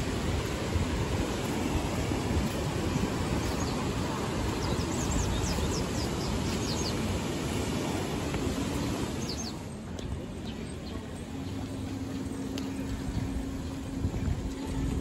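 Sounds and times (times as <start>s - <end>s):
rushing wind: 0.0s - 12.1s, 12.8s - 15.0s.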